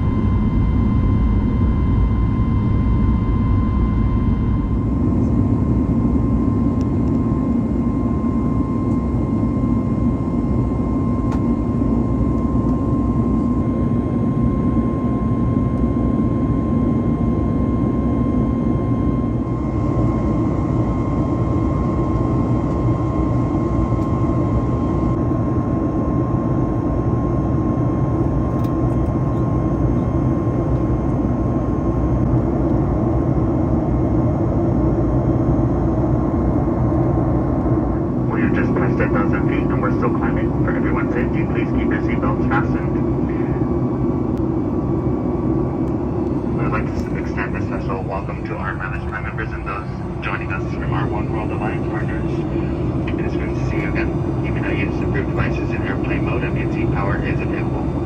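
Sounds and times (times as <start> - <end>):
jet engine and airflow rush: 0.0 - 58.0.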